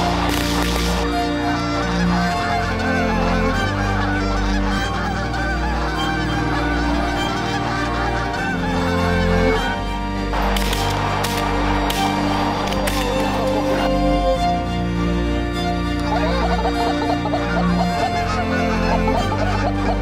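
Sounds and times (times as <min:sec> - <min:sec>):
geese honking in flight: 0:00.0 - 0:20.0.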